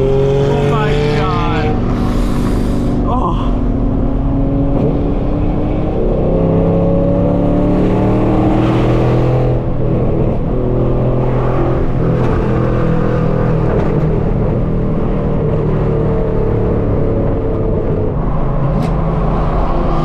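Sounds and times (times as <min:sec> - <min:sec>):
loud car exhaust cruising: 0:00.0 - 0:20.0.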